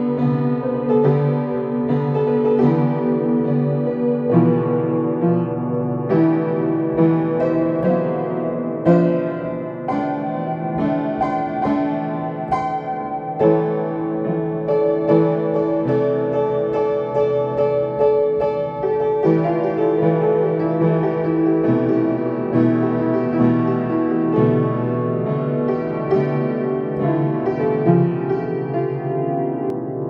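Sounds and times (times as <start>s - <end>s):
slow calm piano piece: 0.0s - 30.0s.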